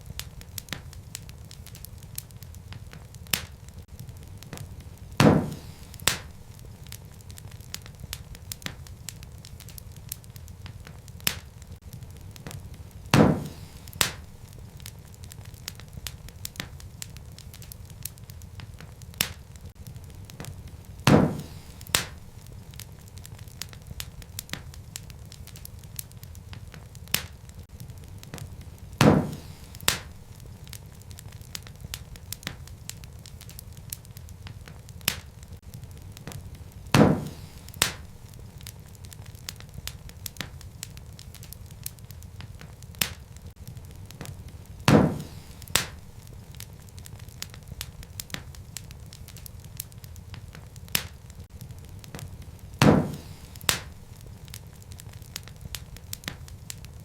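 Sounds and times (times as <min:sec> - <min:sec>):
fire popping: 0:00.0 - 0:57.0
wood fire crackling: 0:00.0 - 0:57.0.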